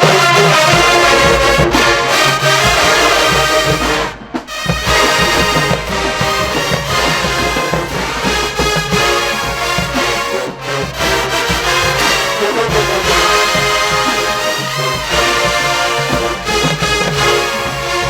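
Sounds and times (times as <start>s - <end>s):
drum line: 0.0s - 18.0s
marching band brass: 0.0s - 18.0s.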